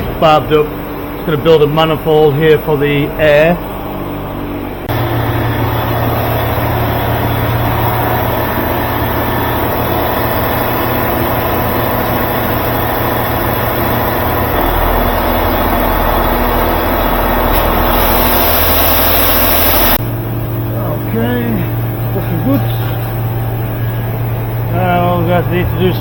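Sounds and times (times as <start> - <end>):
loud machine hum: 0.0 - 26.0.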